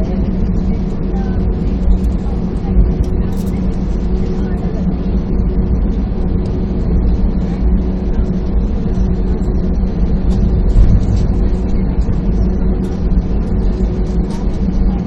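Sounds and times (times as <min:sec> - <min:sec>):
constant hum: 0:00.0 - 0:15.0
low engine rumble: 0:00.0 - 0:15.0.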